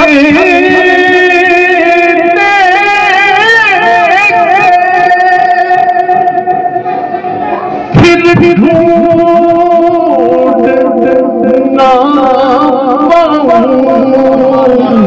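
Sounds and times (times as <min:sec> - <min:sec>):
man singing wordless melody: 0:00.0 - 0:06.6, 0:07.9 - 0:15.0
steady held drone: 0:00.2 - 0:15.0.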